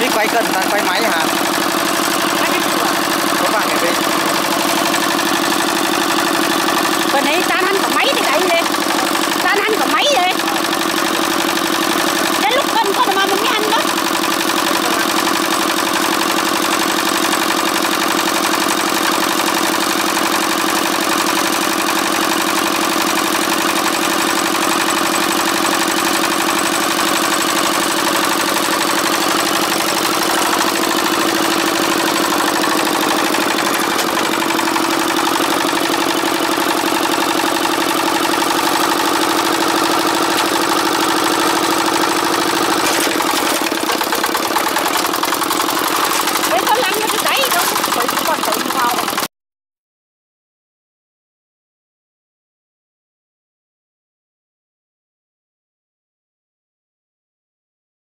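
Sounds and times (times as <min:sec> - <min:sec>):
diesel tractor engine running: 0:00.0 - 0:49.3.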